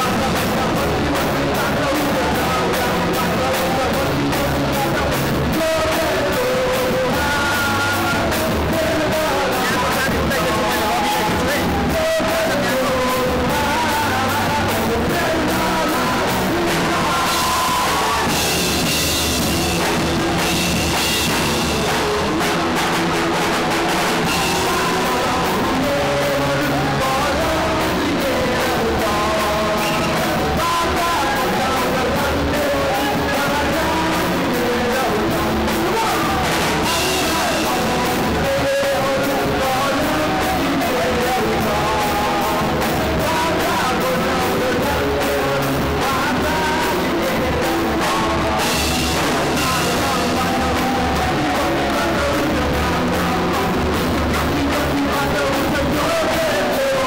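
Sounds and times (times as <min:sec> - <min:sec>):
person singing: 0:00.0 - 0:57.0
rock band playing: 0:00.0 - 0:57.0.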